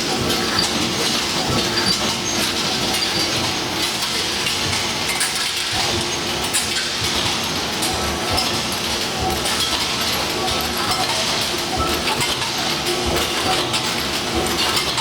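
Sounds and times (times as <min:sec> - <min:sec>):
forging machine clattering: 0:00.0 - 0:15.0.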